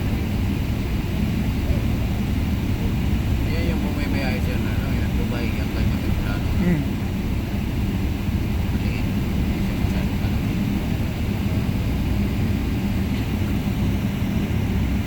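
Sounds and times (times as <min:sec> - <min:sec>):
airliner cabin rumble and hum: 0:00.0 - 0:15.0.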